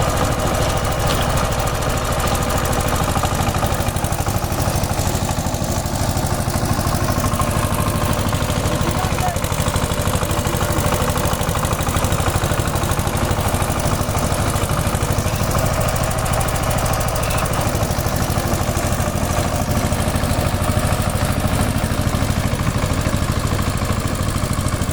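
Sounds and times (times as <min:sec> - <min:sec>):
diesel engine chugging: 0:00.0 - 0:24.9.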